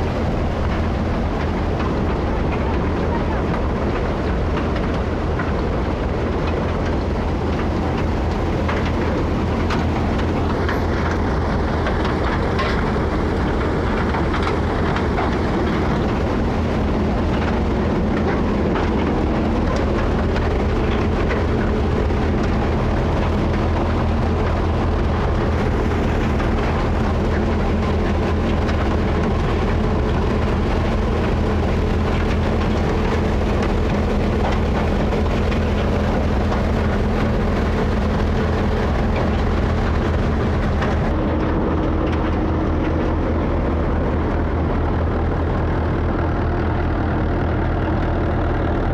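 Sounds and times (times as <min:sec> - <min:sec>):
low engine drone: 0:00.0 - 0:48.9
thresher rattling clatter: 0:00.0 - 0:48.9.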